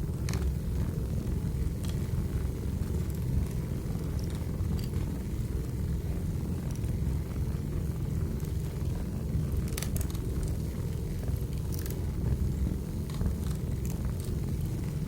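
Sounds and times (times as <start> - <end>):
fire crackles: 0.0 - 15.0
wood fire flames rumbling: 0.0 - 15.0.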